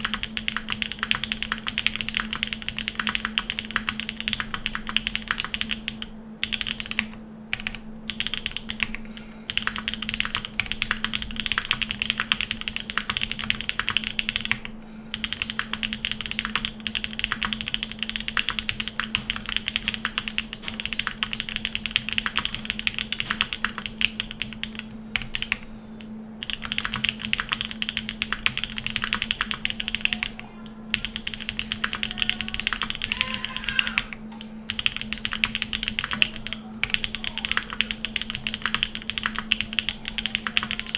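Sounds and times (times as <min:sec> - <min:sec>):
mechanical keyboard typing: 0:00.0 - 0:40.9
steady low hum: 0:00.0 - 0:40.9.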